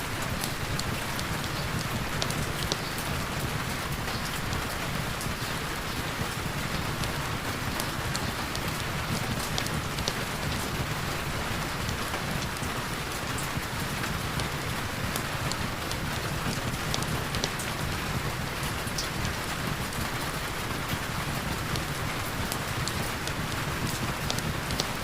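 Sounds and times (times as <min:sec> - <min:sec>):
heavy rain falling: 0:00.0 - 0:25.0
raindrop ticks: 0:00.0 - 0:25.0.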